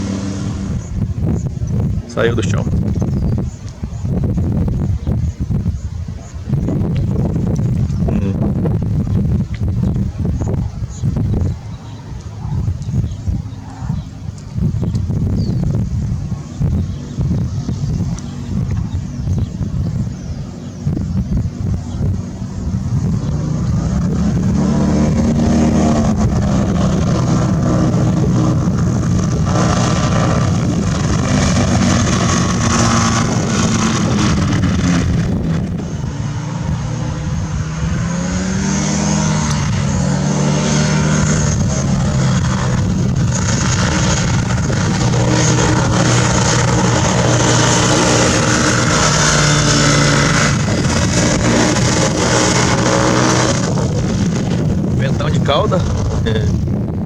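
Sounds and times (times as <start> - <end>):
ultralight engine running: 0.0 - 57.0.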